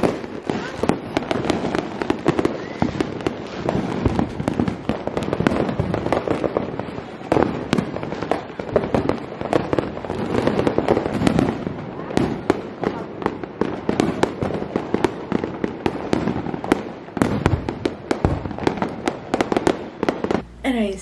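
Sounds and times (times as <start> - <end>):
firecrackers banging and popping: 0.0 - 20.5.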